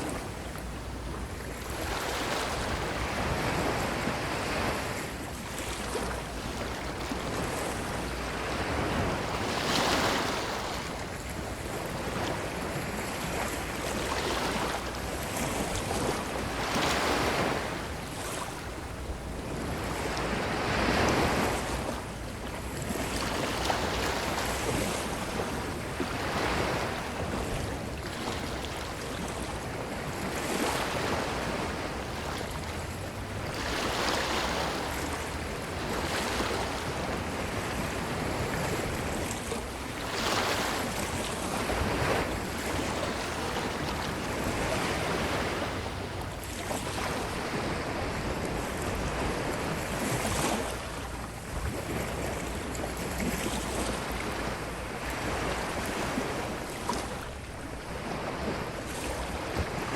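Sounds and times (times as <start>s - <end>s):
ocean waves breaking on beach: 0.0s - 59.9s
wind on microphone: 0.0s - 59.9s.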